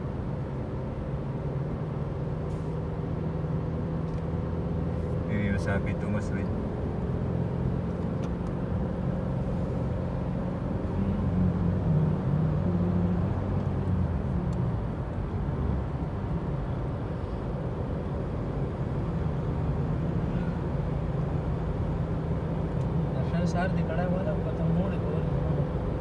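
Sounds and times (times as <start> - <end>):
car engine and tyre hum: 0.0 - 26.0.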